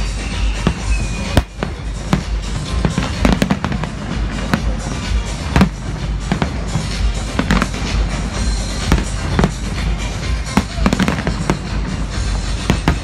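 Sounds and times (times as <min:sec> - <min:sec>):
fireworks bursting with sharp bangs: 0:00.0 - 0:13.0
music playing: 0:00.0 - 0:13.0.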